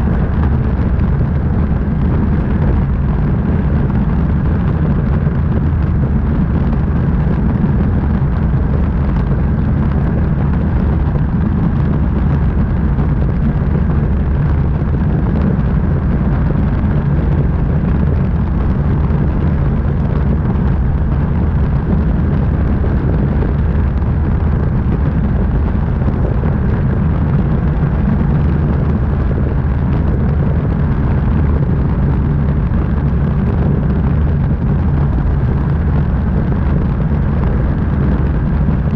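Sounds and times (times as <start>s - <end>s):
aircraft engine and propeller drone: 0.0s - 38.9s
rushing air: 0.0s - 38.9s.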